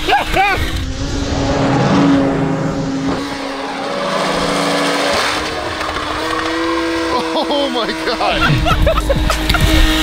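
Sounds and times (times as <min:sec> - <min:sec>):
snowmobile engine at high revs: 0:00.0 - 0:10.0.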